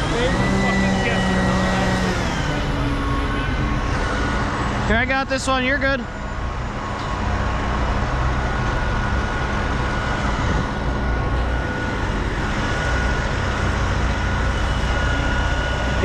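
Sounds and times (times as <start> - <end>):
diesel engine rumbling: 0.0 - 16.0
thin steady whine: 0.0 - 16.0.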